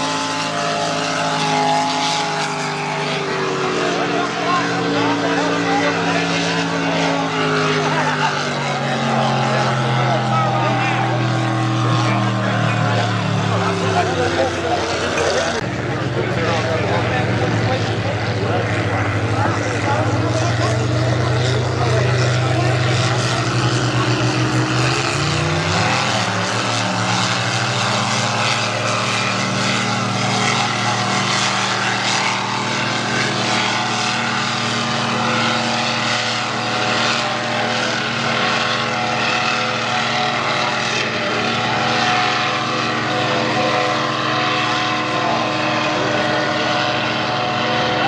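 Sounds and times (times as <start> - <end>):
racing boat engines droning: 0.0 - 48.0.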